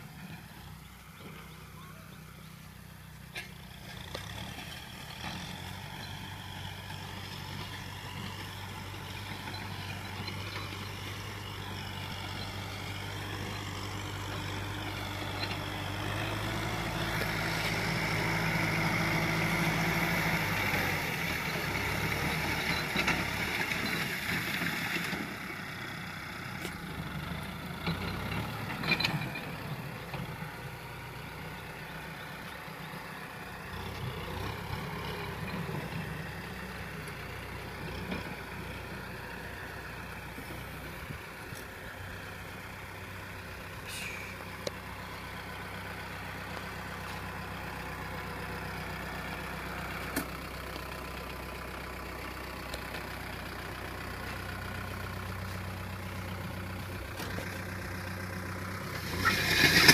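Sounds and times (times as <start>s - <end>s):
tractor diesel engine running: 0.0s - 59.9s
rotary tiller working soil: 3.2s - 59.9s.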